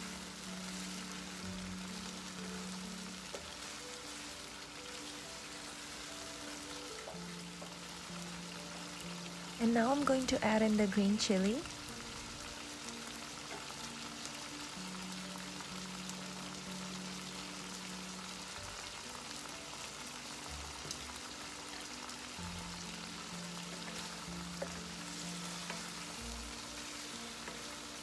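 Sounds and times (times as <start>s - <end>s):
chicken sizzling in oil: 0.0s - 28.0s
soft background music: 0.0s - 28.0s.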